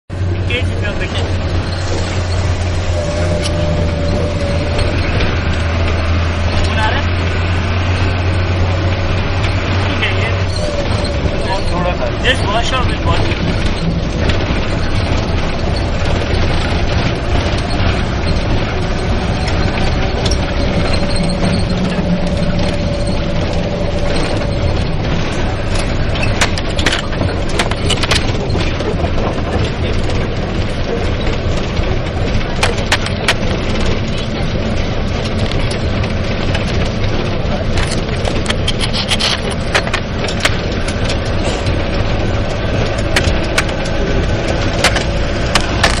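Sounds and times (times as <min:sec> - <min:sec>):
bus engine rumbling: 0:00.1 - 0:46.0
sharp clicks and rattles: 0:00.1 - 0:46.0.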